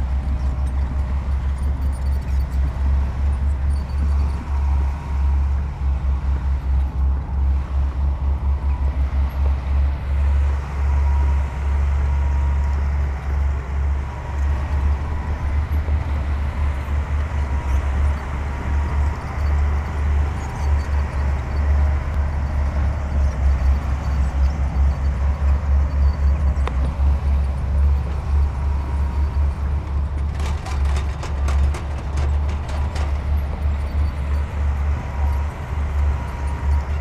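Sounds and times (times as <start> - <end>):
heavy diesel machinery rumbling: 0.0 - 37.0.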